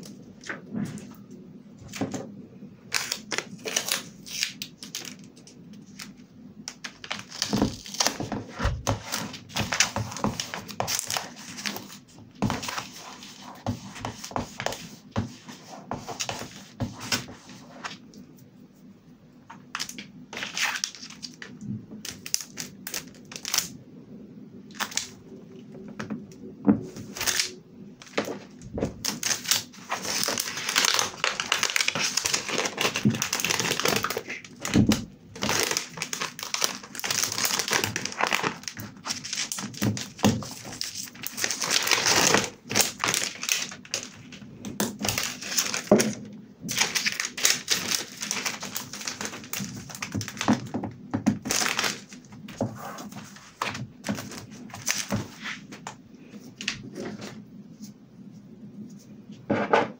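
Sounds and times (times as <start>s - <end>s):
plastic sheet crinkling: 2.9s - 18.1s, 19.5s - 23.8s, 24.7s - 25.3s, 26.8s - 57.4s.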